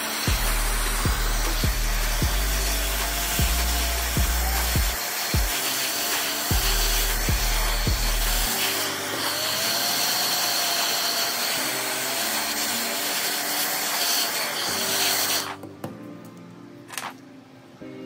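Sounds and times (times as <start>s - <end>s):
hot-air blower running: 0.0s - 15.6s
background music chords: 0.0s - 18.0s.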